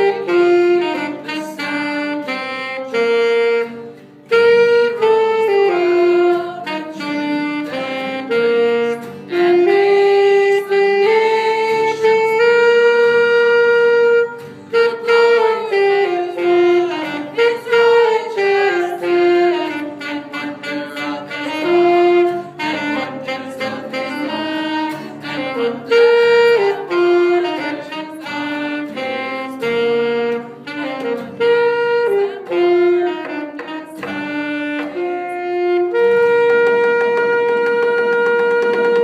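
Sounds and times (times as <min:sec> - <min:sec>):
saxophone melody: 0:00.0 - 0:39.0.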